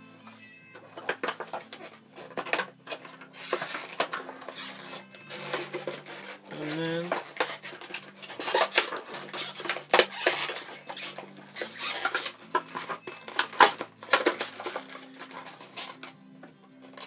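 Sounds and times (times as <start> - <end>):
plastic blister pack crackling: 1.0 - 16.2.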